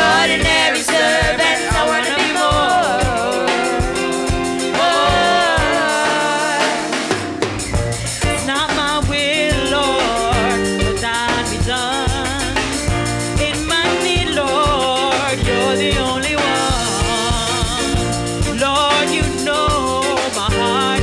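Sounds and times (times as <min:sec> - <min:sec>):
women singing gospel: 0:00.0 - 0:07.2, 0:08.3 - 0:12.6, 0:13.4 - 0:21.0
drum kit: 0:00.0 - 0:21.0
electric bass: 0:00.0 - 0:21.0.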